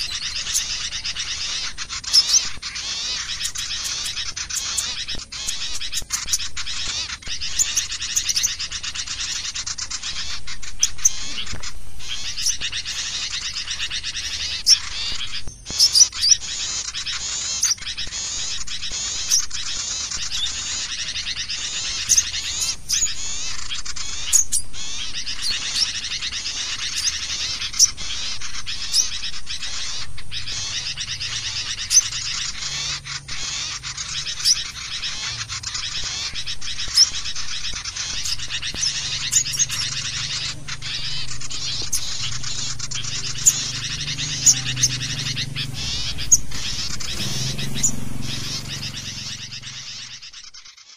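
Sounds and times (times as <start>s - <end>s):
songbirds chirping and chattering: 0.0s - 50.9s.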